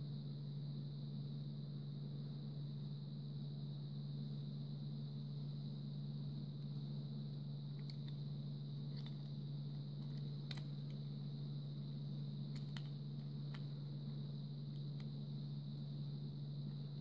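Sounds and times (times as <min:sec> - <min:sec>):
faint high whine: 0:00.0 - 0:17.0
steady low hum: 0:00.0 - 0:17.0.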